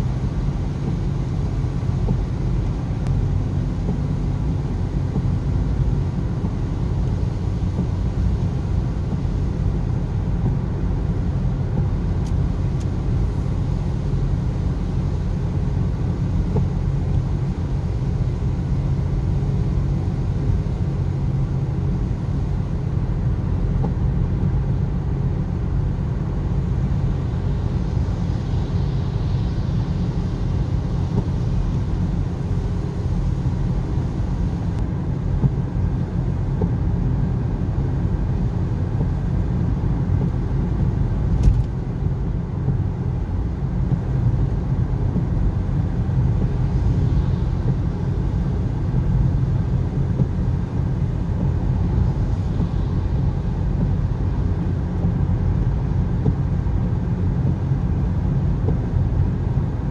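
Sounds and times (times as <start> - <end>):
car cabin road and engine rumble: 0.0 - 59.9
tyres on wet road: 0.0 - 59.9.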